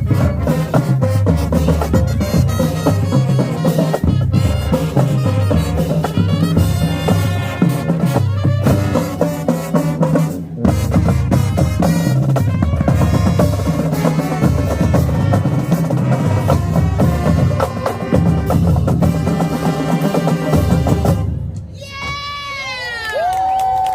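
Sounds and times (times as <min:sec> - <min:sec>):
bass drums beating: 0:00.0 - 0:21.6
marching band playing: 0:00.0 - 0:21.6.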